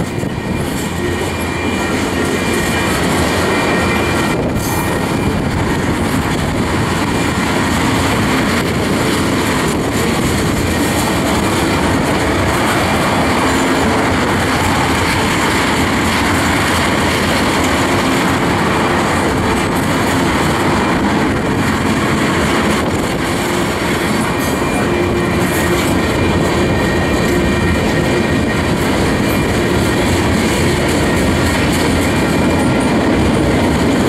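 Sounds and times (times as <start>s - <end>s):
train wheels running on rails: 0.0s - 34.0s.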